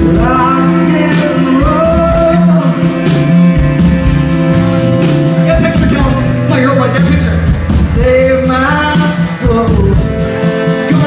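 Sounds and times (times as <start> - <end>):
live soul band playing: 0.0 - 11.0.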